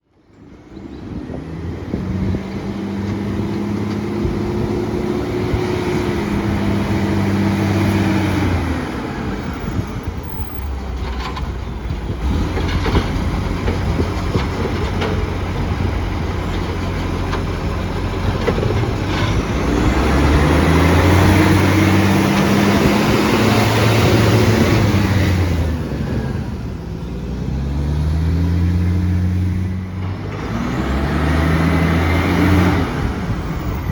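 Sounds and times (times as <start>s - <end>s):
diesel truck engine revving roughly: 1.0s - 9.8s, 12.1s - 33.9s.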